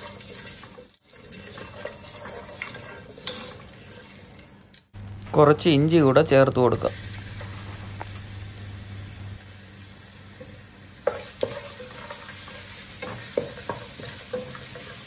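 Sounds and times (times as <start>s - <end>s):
ginger sizzling in hot oil: 0.0s - 4.9s, 6.7s - 15.0s.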